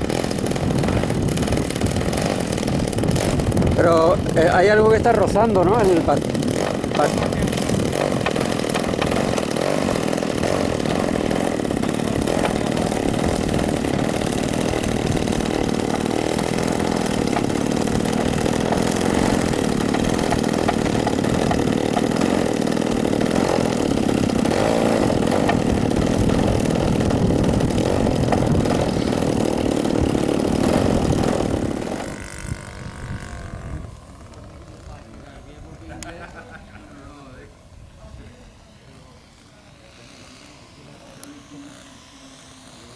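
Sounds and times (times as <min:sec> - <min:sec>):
model aeroplane engine buzzing: 0:00.0 - 0:42.9.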